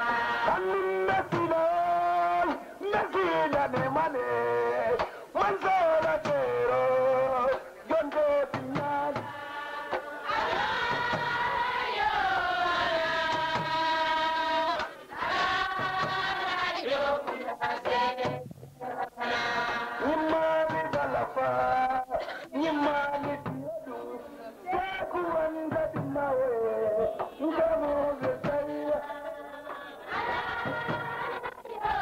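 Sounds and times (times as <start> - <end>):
person singing: 0.0 - 32.0.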